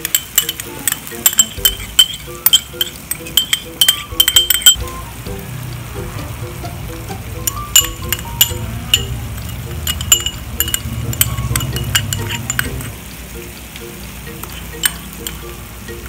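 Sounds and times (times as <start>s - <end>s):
metal spoon clinking on dishes: 0.0s - 5.0s, 7.4s - 16.0s
soft background music: 0.0s - 16.0s.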